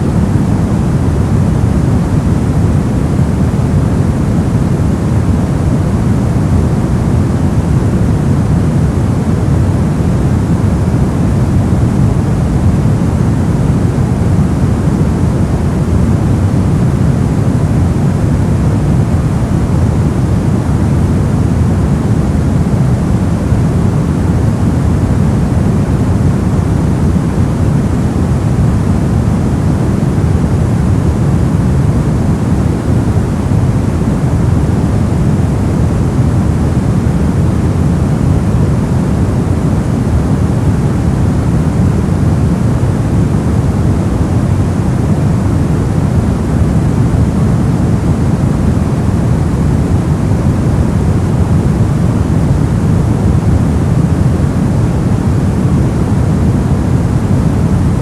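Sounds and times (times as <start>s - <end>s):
white noise with deep rumble: 0.0s - 58.0s.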